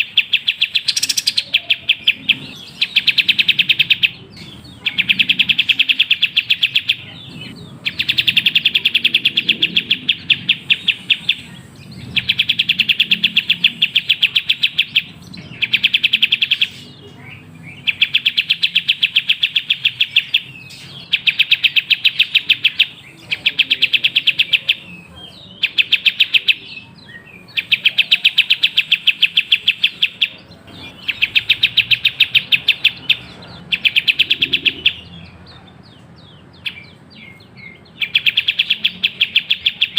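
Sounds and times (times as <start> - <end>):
bird singing chattering trills: 0.0 - 39.9.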